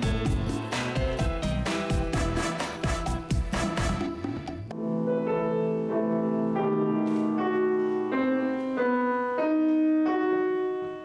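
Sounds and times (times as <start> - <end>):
slow grand piano melody: 0.0 - 11.0.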